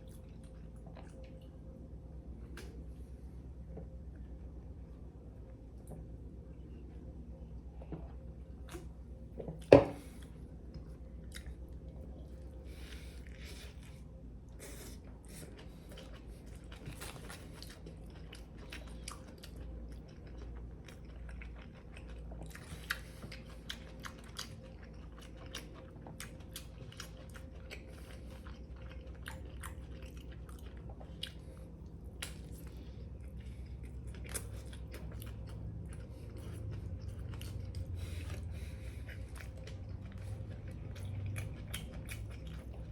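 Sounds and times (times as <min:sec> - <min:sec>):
chewing crunchy sandwich: 0:00.0 - 0:01.8, 0:07.6 - 0:42.9.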